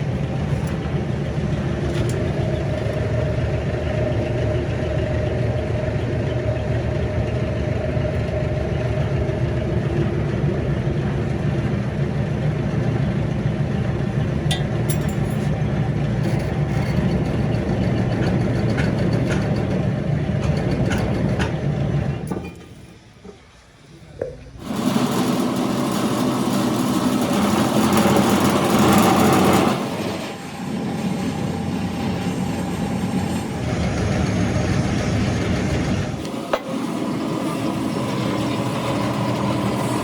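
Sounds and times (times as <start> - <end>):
heavy machine engine humming: 0.0 - 40.0.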